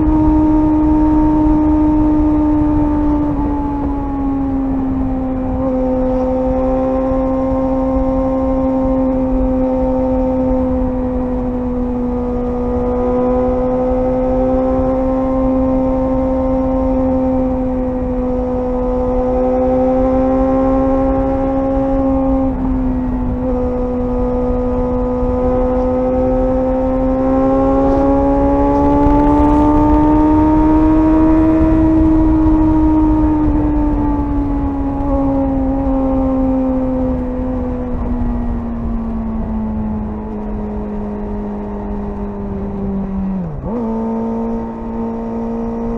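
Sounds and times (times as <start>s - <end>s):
low wind rumble: 0.0s - 45.9s
motorcycle engine cruising: 0.0s - 45.9s.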